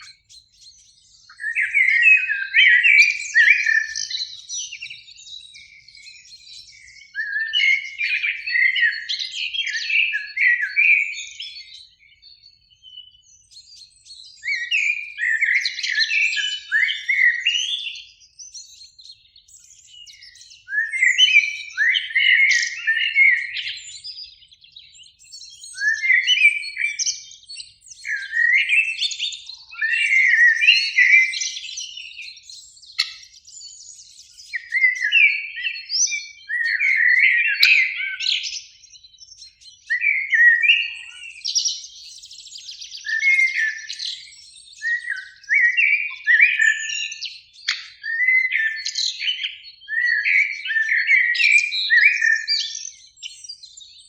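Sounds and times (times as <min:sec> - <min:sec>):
blackbird singing: 0:00.0 - 0:54.0.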